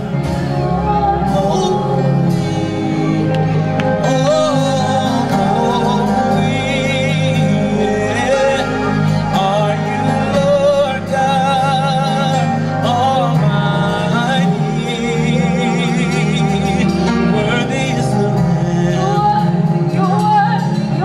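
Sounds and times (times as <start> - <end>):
band chords and bass: 0.0 - 21.0
person singing long notes: 0.0 - 21.0.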